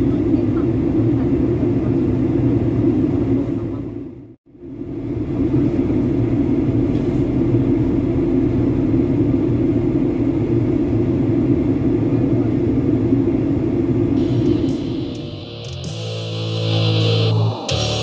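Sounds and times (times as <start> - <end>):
airliner cabin drone: 0.0 - 18.0.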